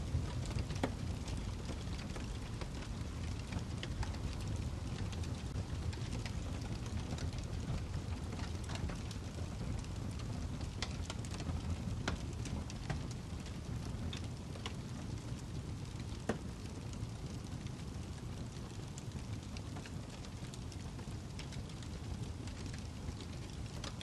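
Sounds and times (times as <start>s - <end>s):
fire rumbling in fireplace: 0.0s - 24.0s
log crackling and popping: 0.0s - 24.0s.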